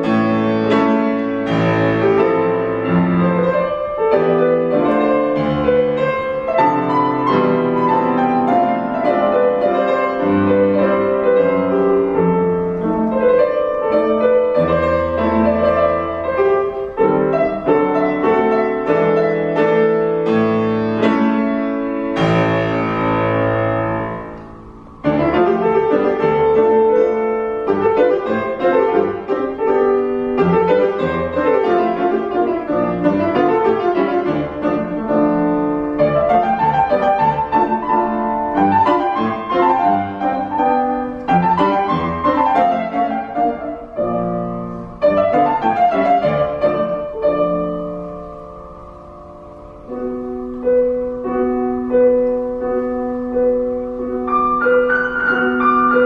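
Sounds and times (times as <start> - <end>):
solo piano playing dance piece: 0.0 - 56.0.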